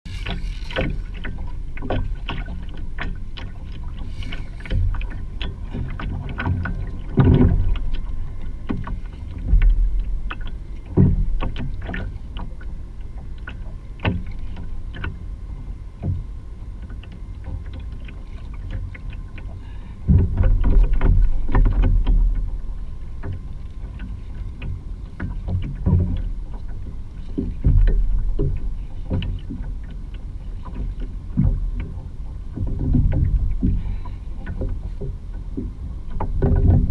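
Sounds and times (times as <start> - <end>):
steady low rumble: 0.0 - 36.9
water knocking against kayak hull: 0.1 - 15.2, 16.0 - 36.9.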